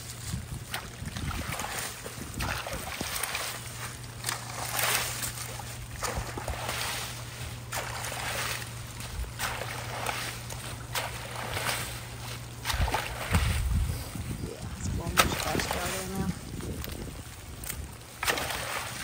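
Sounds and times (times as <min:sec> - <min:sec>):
rake scraping through wet leaves: 0:00.0 - 0:19.0.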